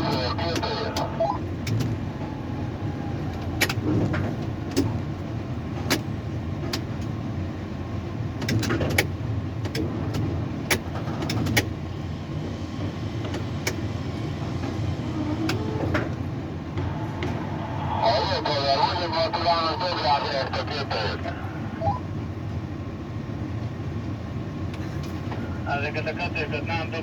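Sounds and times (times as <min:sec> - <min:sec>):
low machinery hum: 0:00.0 - 0:08.3, 0:11.7 - 0:27.0.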